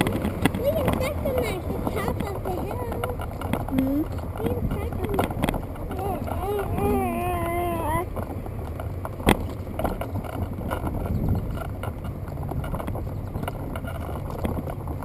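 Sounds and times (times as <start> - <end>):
stroller wheels rolling on pavement: 0.0 - 15.0.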